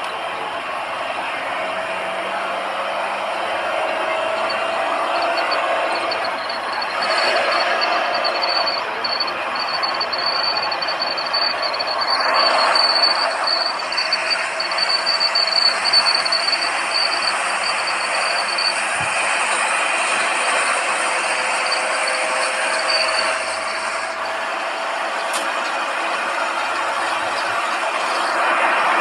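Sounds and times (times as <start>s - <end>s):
diesel engine accelerating: 0.0s - 29.0s
road and wind noise: 0.0s - 29.0s
thin high whine: 0.0s - 29.0s.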